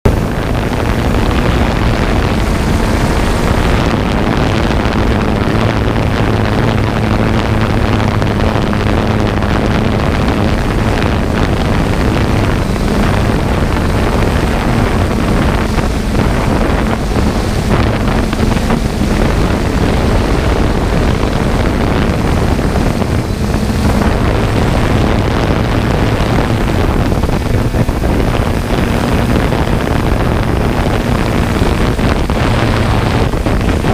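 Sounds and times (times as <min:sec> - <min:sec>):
combine harvester engine hum: 0:00.0 - 0:33.9
wind noise on microphone: 0:00.0 - 0:33.9.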